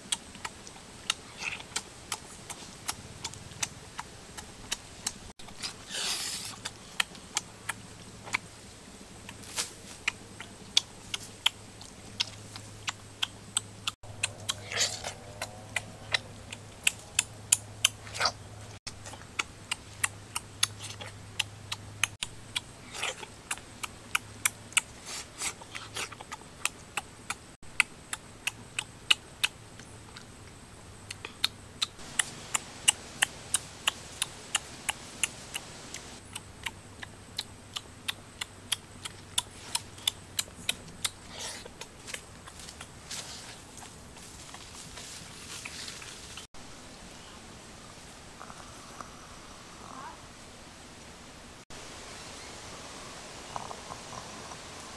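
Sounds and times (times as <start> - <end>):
faint low hum: 0.0 - 54.9.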